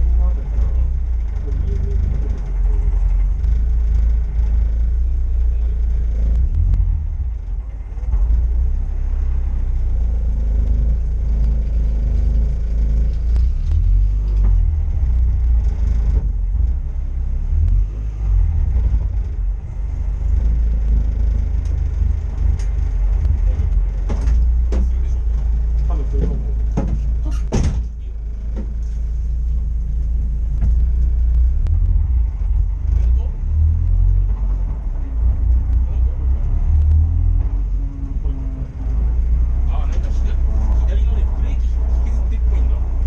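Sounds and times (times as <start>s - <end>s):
low vehicle rumble: 0.0s - 43.0s.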